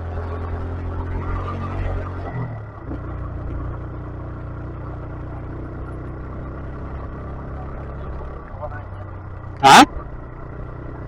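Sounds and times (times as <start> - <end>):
motorcycle engine running: 2.1 - 11.0.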